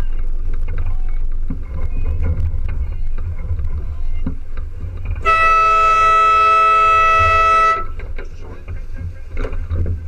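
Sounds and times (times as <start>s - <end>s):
water washing along hull: 0.0s - 10.0s
wind rumbling on microphone: 0.0s - 10.0s.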